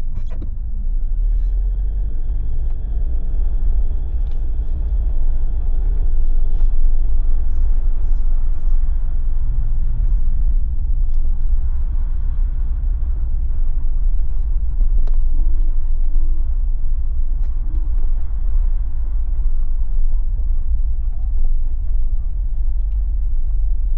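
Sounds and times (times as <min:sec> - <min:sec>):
vehicle engine and road rumble: 0:00.0 - 0:23.9.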